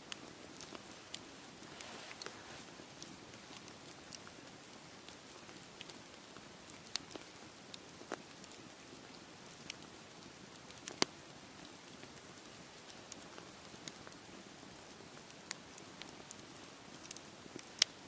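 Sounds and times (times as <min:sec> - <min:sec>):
steady hiss: 0:00.0 - 0:18.0
campfire pops and snaps: 0:00.1 - 0:18.0.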